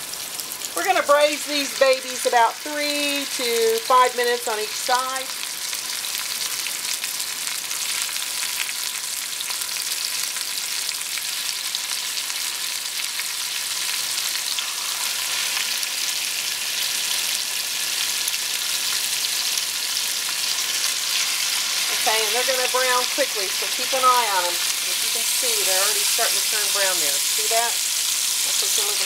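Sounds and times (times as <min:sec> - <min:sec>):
pork ribs sizzling in oil: 0:00.0 - 0:29.0.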